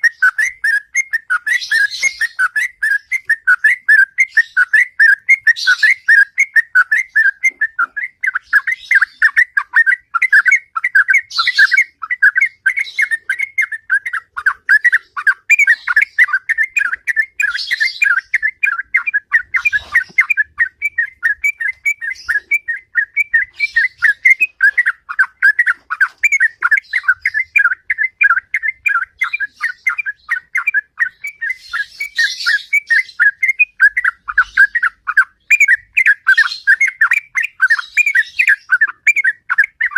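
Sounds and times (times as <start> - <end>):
bulbul singing whistled notes: 0.0 - 39.9.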